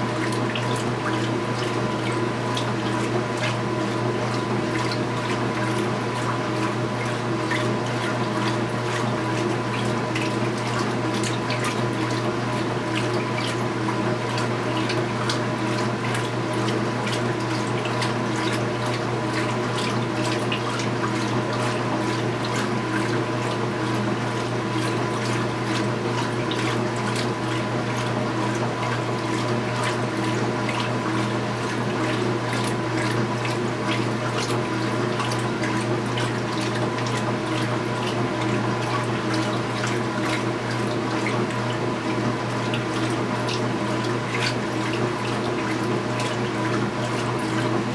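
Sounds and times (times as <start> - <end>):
washing machine motor hum: 0.0 - 47.9
water splashing in tub: 0.0 - 47.9.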